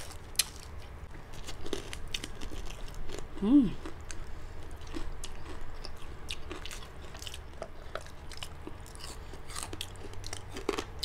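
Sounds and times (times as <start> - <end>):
people chewing crispy food: 0.0 - 11.0.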